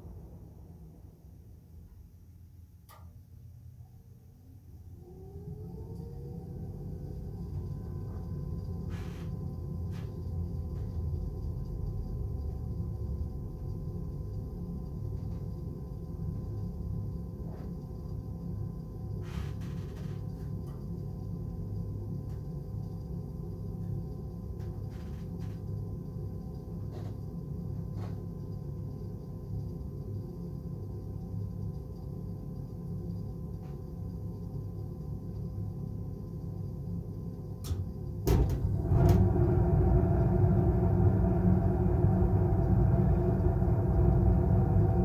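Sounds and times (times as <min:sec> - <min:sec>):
furnace running hum: 0:00.0 - 0:45.0.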